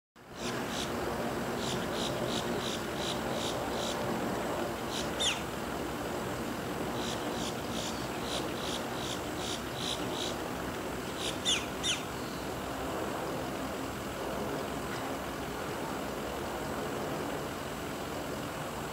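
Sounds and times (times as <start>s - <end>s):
distant turboprop engine drone: 0.2s - 18.9s.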